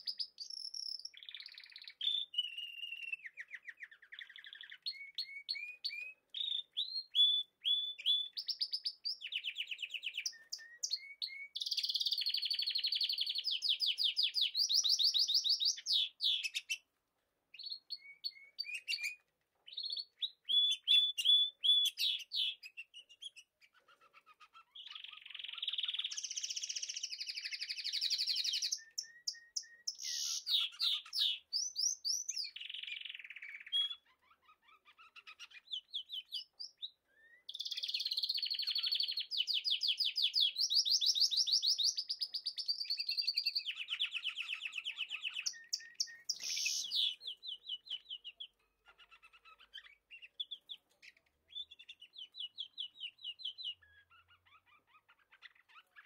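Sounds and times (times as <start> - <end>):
budgerigars chirping and warbling: 0.0 - 16.9, 17.6 - 56.0.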